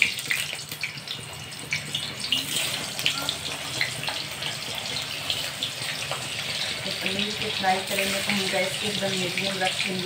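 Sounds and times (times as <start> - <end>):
paneer sizzling in hot oil: 0.0 - 10.0.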